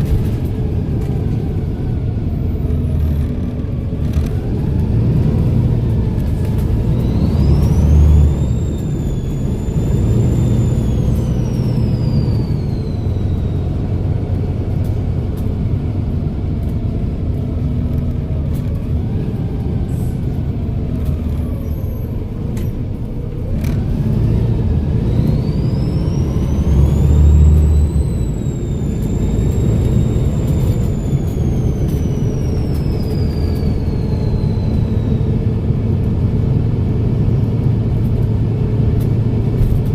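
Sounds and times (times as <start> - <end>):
diesel bus engine rumble: 0.0 - 39.9.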